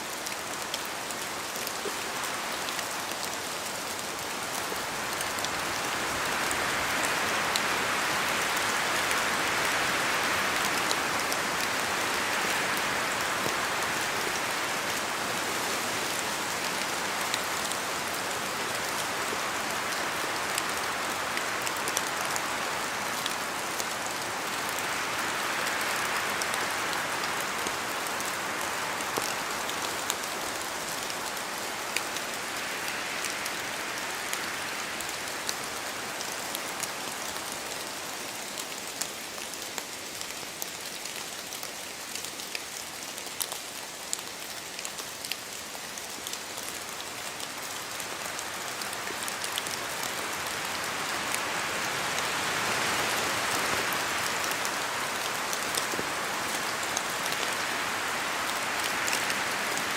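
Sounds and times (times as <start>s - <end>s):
rain falling in forest: 0.0s - 59.9s
wind in trees: 0.0s - 59.9s.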